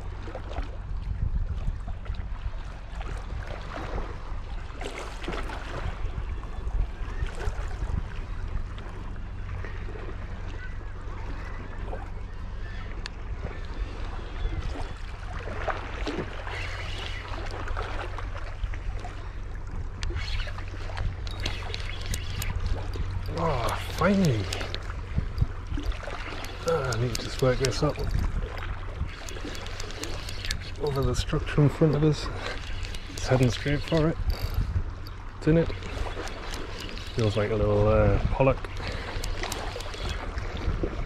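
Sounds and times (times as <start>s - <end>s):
water lapping against rocks: 0.0s - 41.0s
wind rumble on microphone: 0.0s - 41.0s.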